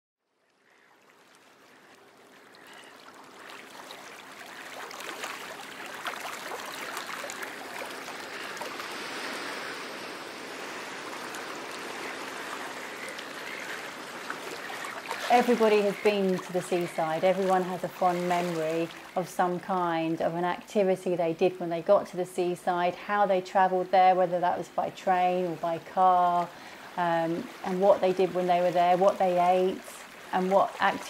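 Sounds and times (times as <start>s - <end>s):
water trickling and splashing: 0.3s - 31.0s.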